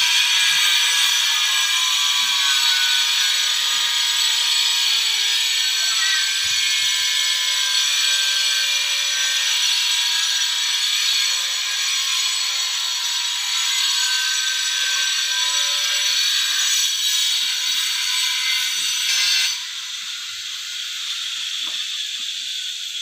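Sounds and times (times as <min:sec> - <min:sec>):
high-pitched buzzing drone: 0:00.0 - 0:23.0.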